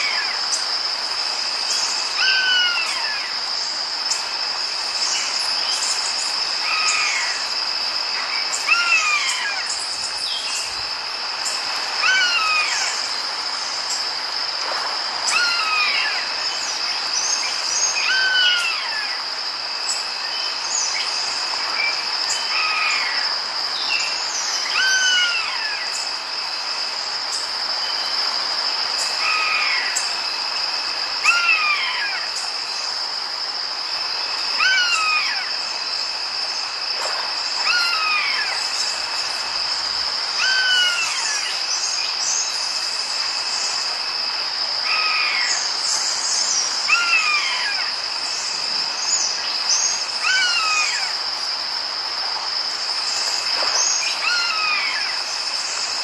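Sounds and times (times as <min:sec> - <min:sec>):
high insect drone: 0:00.0 - 0:56.0
steady rain hiss: 0:00.0 - 0:56.0.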